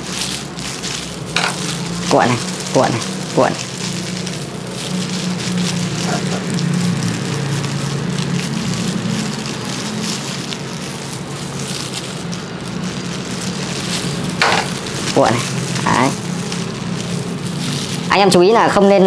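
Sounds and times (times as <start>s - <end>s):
plastic gloves crinkling: 0.0s - 19.0s.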